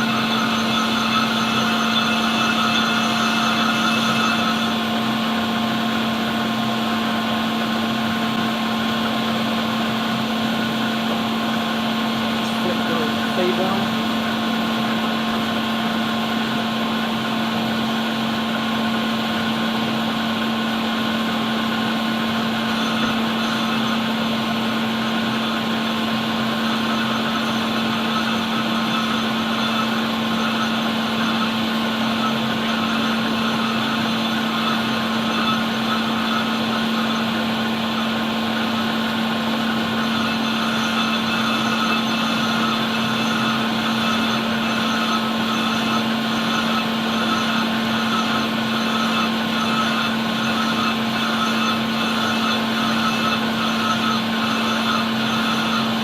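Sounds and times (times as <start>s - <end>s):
lathe motor hum: 0.0s - 56.0s.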